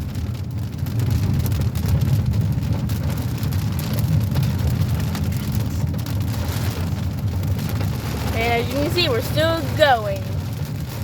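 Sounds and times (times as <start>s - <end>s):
car rumbling from inside cabin: 0.0s - 11.0s
rain hitting windshield: 0.0s - 11.0s.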